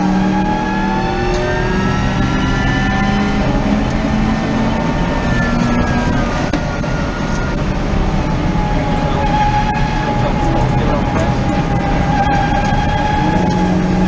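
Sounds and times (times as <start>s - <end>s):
electric drivetrain whine: 0.0s - 14.0s.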